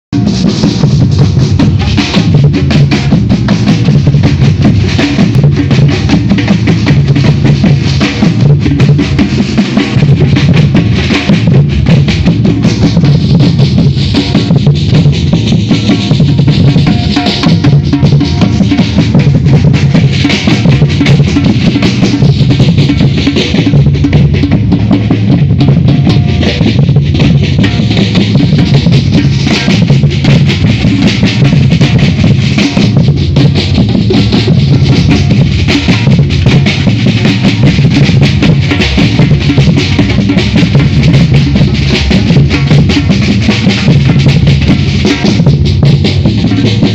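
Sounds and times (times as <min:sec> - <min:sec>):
deep bass drums: 0:00.1 - 0:46.9
rapid snare drum strokes: 0:00.1 - 0:46.9.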